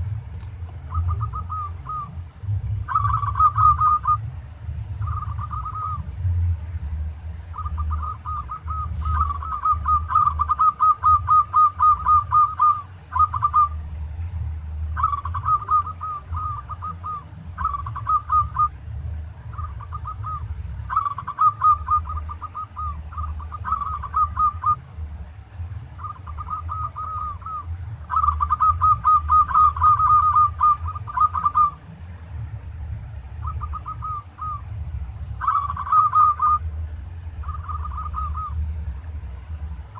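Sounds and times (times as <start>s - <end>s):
low steady hum: 0.0s - 39.9s
dove cooing: 0.7s - 6.3s, 7.4s - 14.0s, 14.8s - 25.0s, 25.9s - 32.1s, 33.2s - 39.0s.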